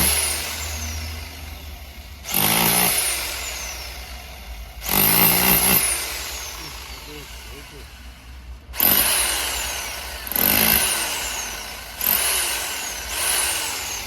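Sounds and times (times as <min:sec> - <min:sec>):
power tool motor whining: 0:00.0 - 0:14.0.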